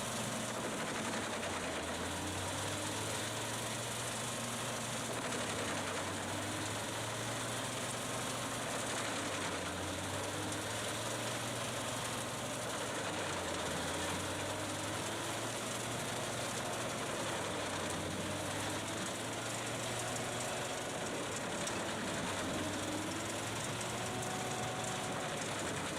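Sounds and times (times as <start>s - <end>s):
heavy machine engine running: 0.0s - 25.9s.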